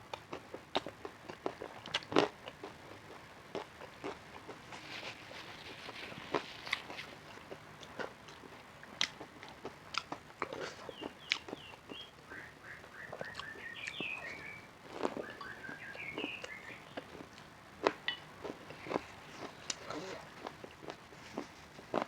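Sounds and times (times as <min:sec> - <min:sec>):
crunchy bites and chewing: 0:00.1 - 0:12.1, 0:13.2 - 0:22.0.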